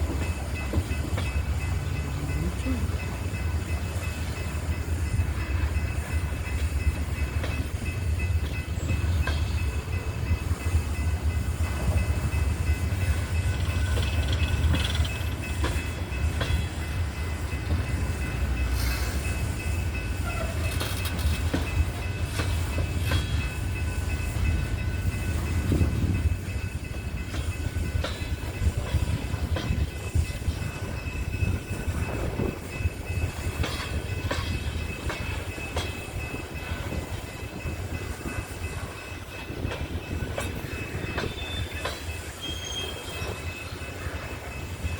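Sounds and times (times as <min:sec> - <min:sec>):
train cars rumbling by: 0:00.0 - 0:44.9
wheels clicking over rail joints: 0:00.0 - 0:44.9.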